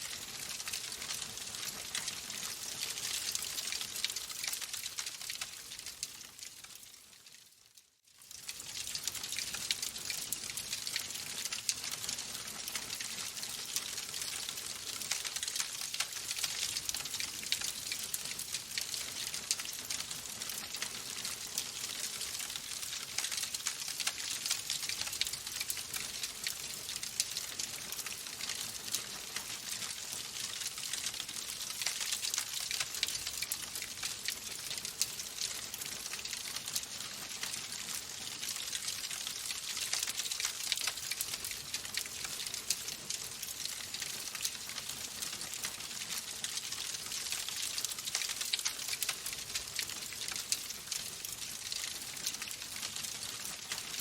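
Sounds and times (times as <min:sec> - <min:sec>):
wood fire crackling: 0:00.0 - 0:07.4, 0:08.2 - 0:54.0.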